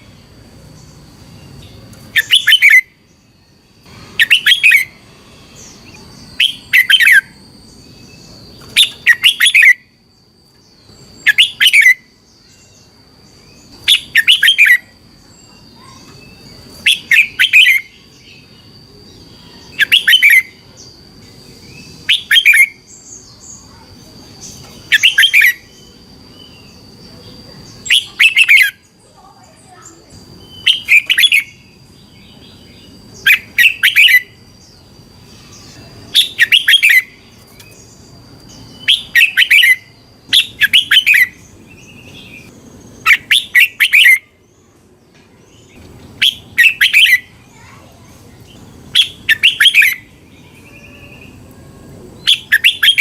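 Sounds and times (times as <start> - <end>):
bulbul singing warbled phrases: 0.0 - 53.0.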